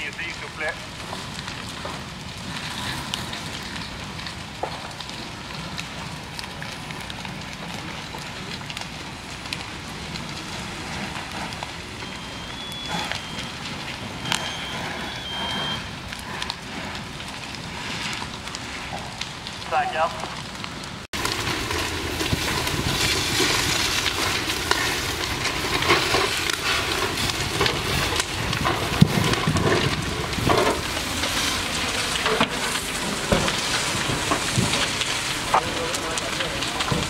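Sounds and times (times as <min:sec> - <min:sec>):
burning timber crackling and popping: 0:00.0 - 0:37.0
fire burning and crackling: 0:00.0 - 0:37.0.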